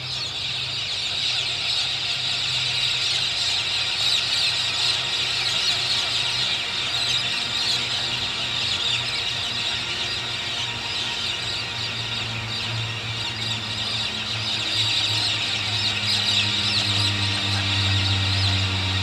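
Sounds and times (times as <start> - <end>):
flock of birds chirping: 0.0 - 19.0.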